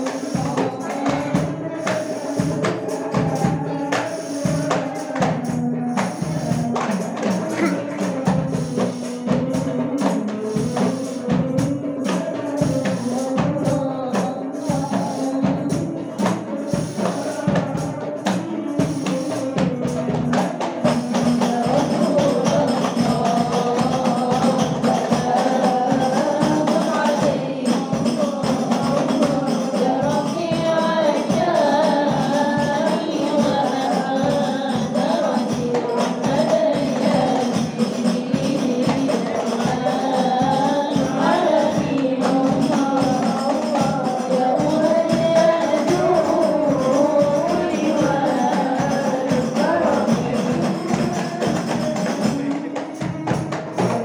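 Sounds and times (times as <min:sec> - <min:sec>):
frame drums playing quick rhythm: 0:00.0 - 0:54.0
group singing: 0:00.0 - 0:54.0.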